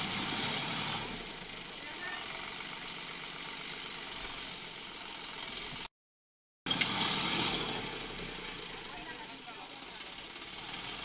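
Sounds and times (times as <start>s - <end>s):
tractor diesel engine running: 0.0s - 5.9s, 6.7s - 11.0s.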